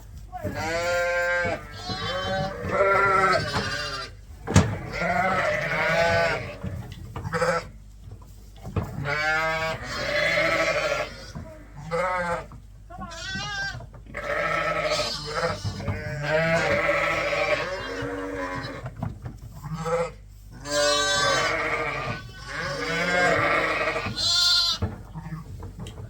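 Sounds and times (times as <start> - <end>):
sheep bleating: 0.4 - 6.6, 9.0 - 18.8, 19.6 - 25.5.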